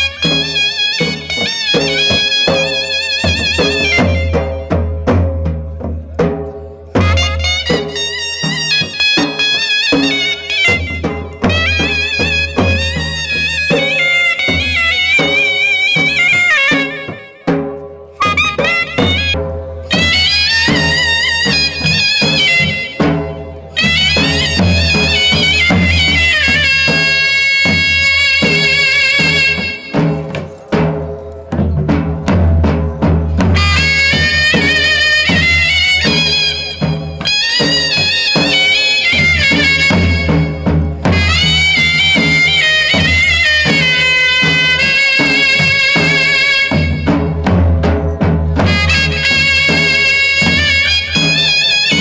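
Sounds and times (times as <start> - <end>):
reedy wind instrument melody: 0.0 - 5.2, 6.6 - 31.8, 33.2 - 47.8, 48.5 - 52.0
steady drum beats: 0.0 - 52.0.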